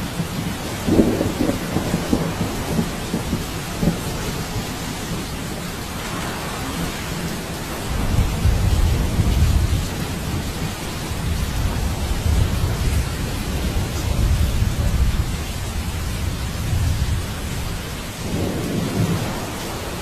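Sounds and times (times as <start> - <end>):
steady rain falling: 0.0 - 20.0
thunder rumbling: 0.0 - 20.0.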